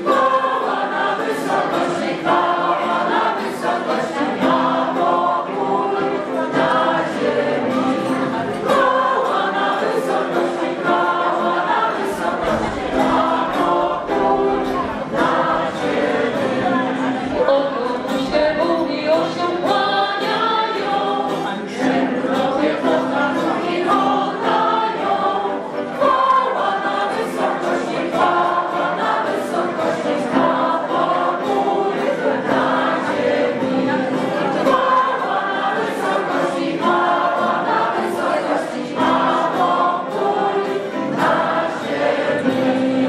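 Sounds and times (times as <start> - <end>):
acoustic guitar: 0.0 - 43.0
choir singing in parts: 0.0 - 43.0.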